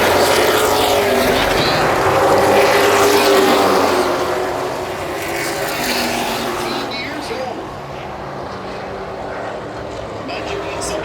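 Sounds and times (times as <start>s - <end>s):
race truck engines: 0.0s - 11.0s.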